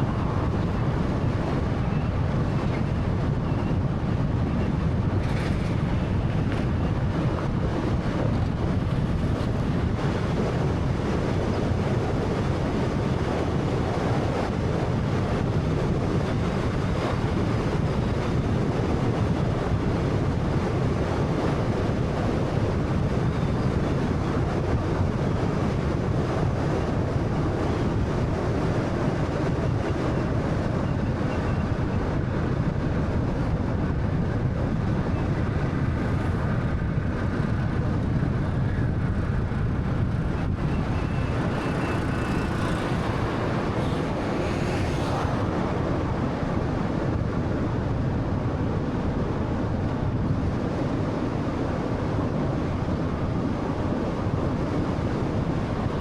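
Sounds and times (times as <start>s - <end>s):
car road and tyre noise: 0.0s - 56.0s
wind noise: 0.0s - 56.0s.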